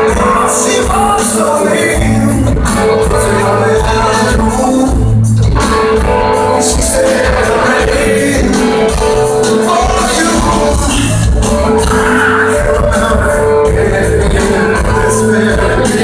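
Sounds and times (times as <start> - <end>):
lead vocal singing: 0.0 - 5.3, 6.0 - 16.0
live rock band playing: 0.0 - 16.0.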